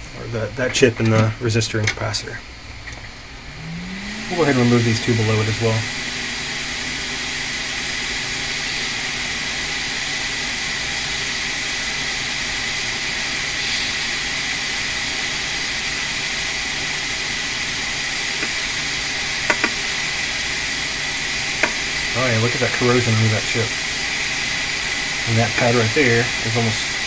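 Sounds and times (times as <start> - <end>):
hot air blower hissing: 0.0 - 27.0.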